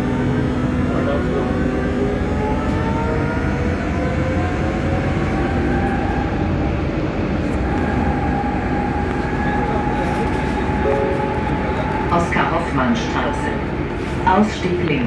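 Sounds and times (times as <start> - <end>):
electric traction motor whine: 0.0 - 15.0
wheels rumbling on rail: 0.0 - 15.0.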